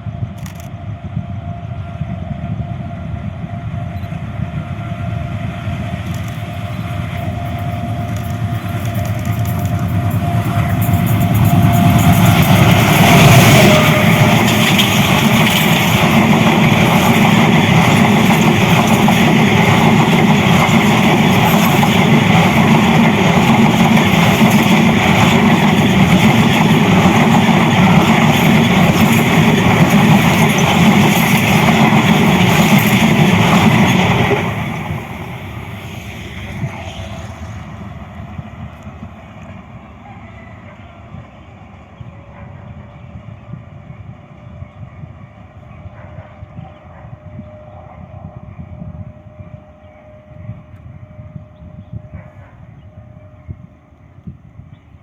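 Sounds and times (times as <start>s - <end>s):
train passing at high speed: 0.0s - 55.0s.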